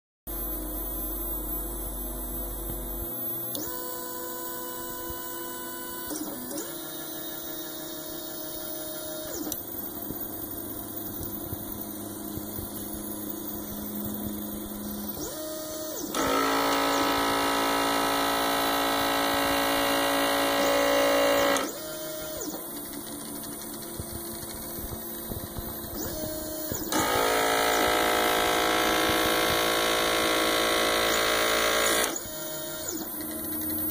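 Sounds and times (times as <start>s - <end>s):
steady machine hum: 0.3s - 6.1s, 6.8s - 33.9s
vacuum pump buzzing: 0.3s - 33.9s
stepper motors whining: 1.4s - 33.9s.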